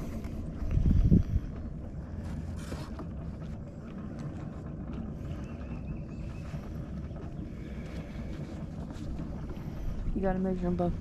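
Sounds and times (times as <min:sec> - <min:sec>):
boat motor low rumble: 0:00.0 - 0:11.0.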